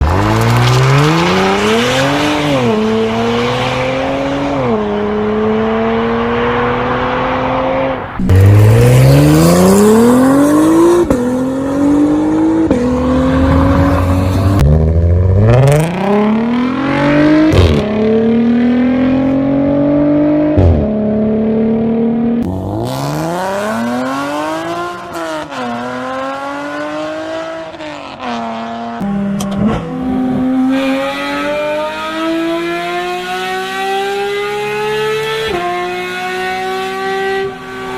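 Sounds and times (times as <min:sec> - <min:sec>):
sports car engines revving: 0:00.0 - 0:37.9.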